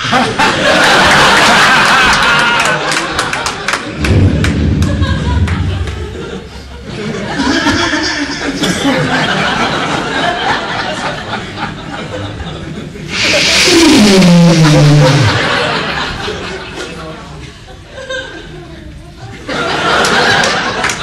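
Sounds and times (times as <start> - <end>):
audience laughter: 0.0 - 21.0.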